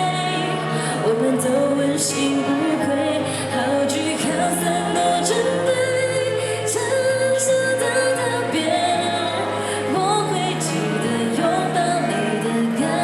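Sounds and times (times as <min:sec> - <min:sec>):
musical accompaniment: 0:00.0 - 0:13.0
woman singing pop ballad: 0:00.0 - 0:13.0.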